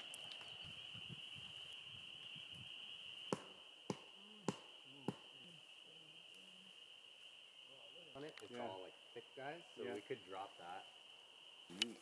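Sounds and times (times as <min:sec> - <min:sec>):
spring peepers chorus: 0:00.0 - 0:12.0.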